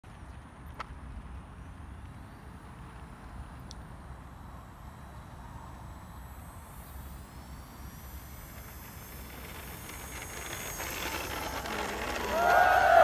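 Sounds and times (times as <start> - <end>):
electric ducted fan whining: 0.1 - 13.0.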